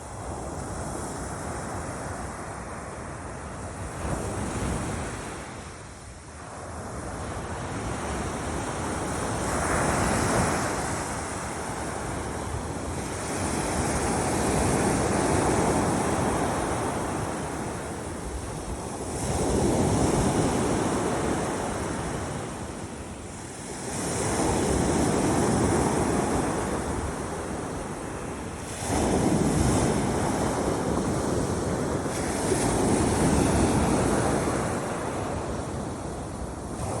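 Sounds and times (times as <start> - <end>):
sea waves breaking on beach: 6.4 - 37.0.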